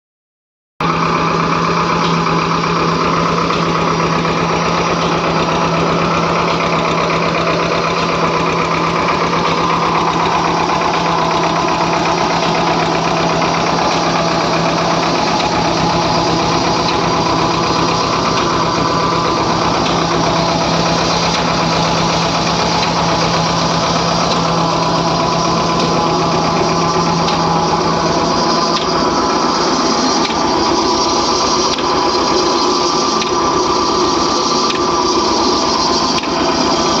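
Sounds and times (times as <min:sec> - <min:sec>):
tractor diesel engine humming: 0:00.8 - 0:37.0.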